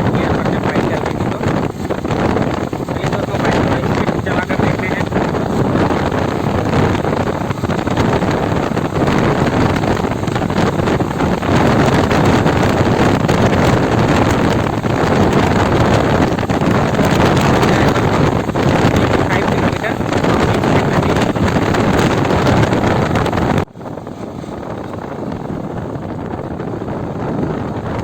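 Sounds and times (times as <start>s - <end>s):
motorcycle engine: 0.0s - 28.0s
wind rushing over microphone: 0.0s - 28.0s.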